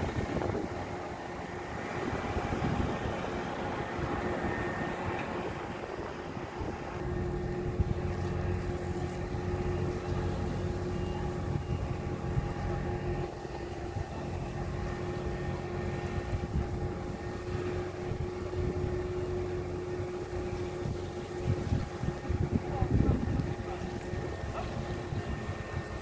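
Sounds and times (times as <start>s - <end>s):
crane diesel engine under load: 0.0s - 26.0s
whining tones: 0.0s - 26.0s.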